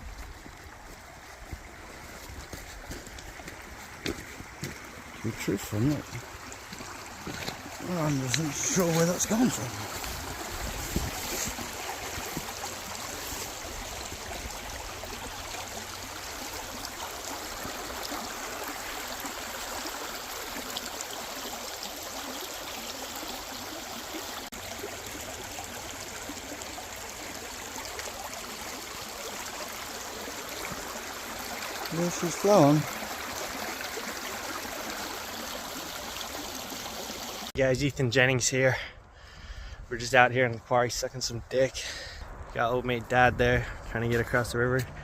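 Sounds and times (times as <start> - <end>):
creek water running over rocks: 0.0 - 39.1, 39.9 - 45.0.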